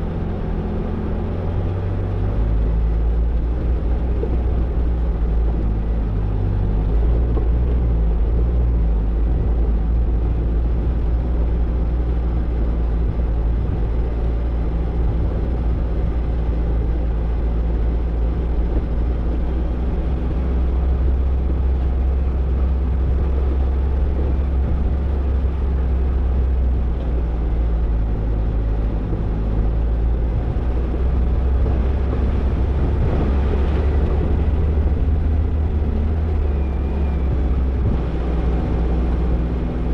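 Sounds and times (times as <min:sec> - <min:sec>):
car engine driving off-road: 0:00.0 - 0:39.9.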